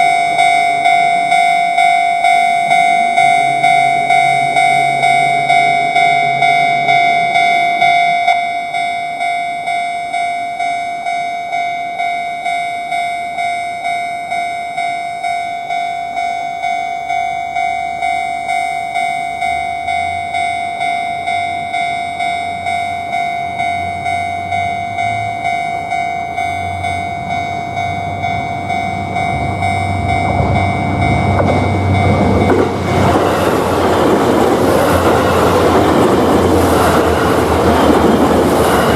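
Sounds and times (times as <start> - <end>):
level-crossing warning bell: 0.0 - 38.9
train rumble and rail noise: 0.0 - 38.9.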